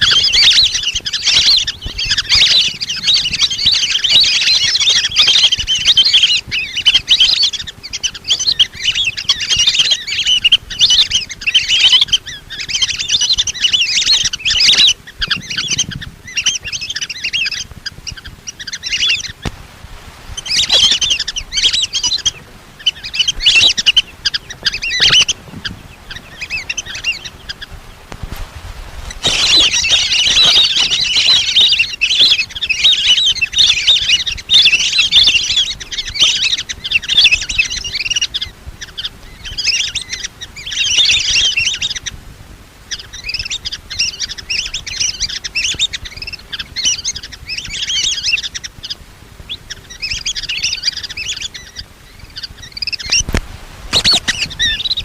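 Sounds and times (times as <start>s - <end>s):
ducks whistling calls: 0.0s - 55.0s.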